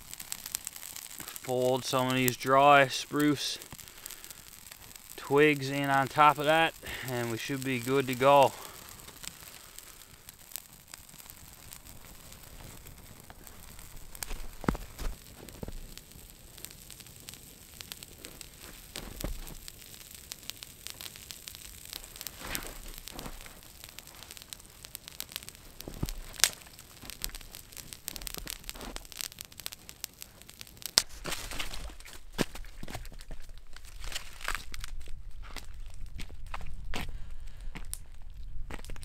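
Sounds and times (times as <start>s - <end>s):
low hiss: 0.0s - 35.4s
campfire crackling and popping: 0.0s - 39.0s.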